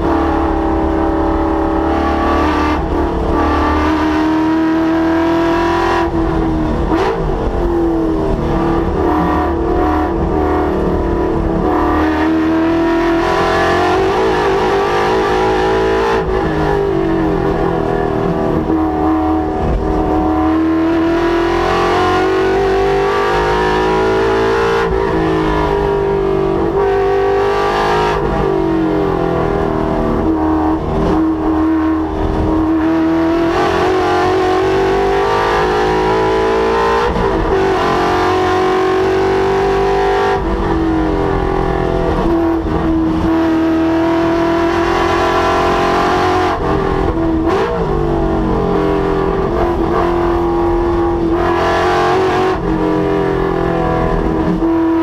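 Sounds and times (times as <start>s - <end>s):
car engine revving on track: 0.0s - 55.0s.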